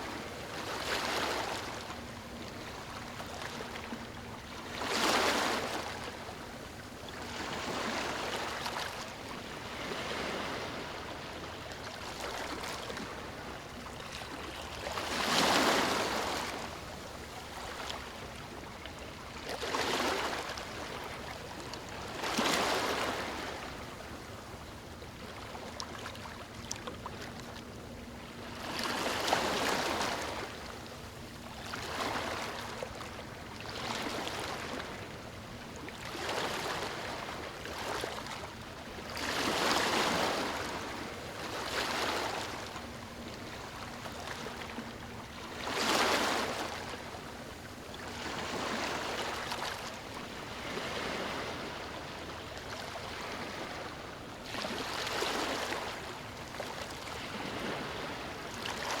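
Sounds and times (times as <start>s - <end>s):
small ocean waves washing ashore: 0.0s - 59.0s.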